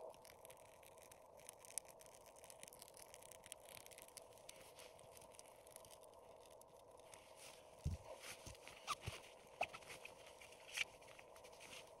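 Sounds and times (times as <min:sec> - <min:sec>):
faint steady background noise: 0:00.0 - 0:12.0
kindling crackling and snapping: 0:00.0 - 0:12.0.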